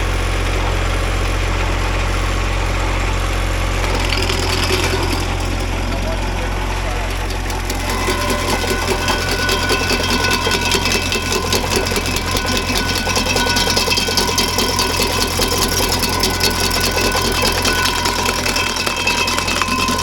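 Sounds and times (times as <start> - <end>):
stump grinder chipping wood: 0.0 - 20.0
tractor engine hum: 0.0 - 20.0.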